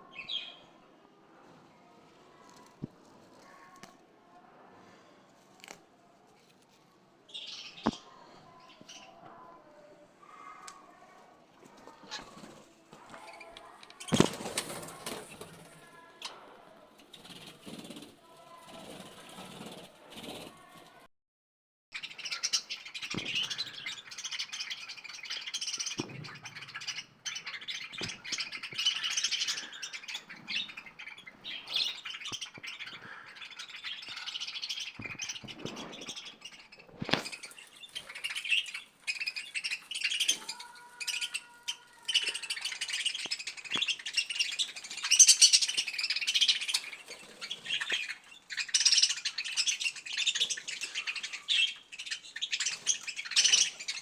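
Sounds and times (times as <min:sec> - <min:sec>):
parrots chirping and chattering: 0:00.0 - 0:00.8, 0:07.3 - 0:21.0, 0:21.9 - 0:54.0.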